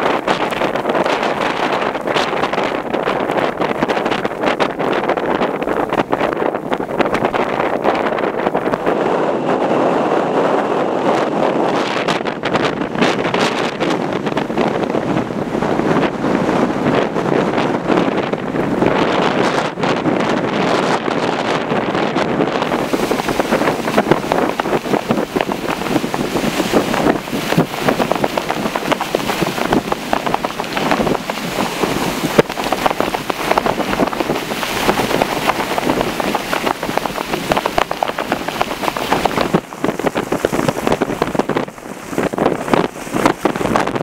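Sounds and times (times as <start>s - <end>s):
crackle of wind-driven snow: 0.0s - 44.0s
strong gusting wind: 0.0s - 44.0s.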